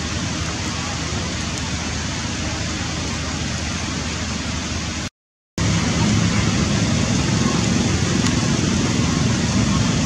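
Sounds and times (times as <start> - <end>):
outdoor hiss with low rumble: 0.0 - 10.0.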